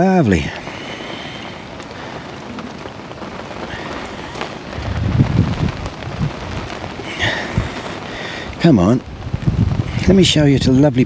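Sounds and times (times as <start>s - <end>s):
low rumbles: 0.0s - 11.0s
rain pattering on umbrella: 0.0s - 11.0s.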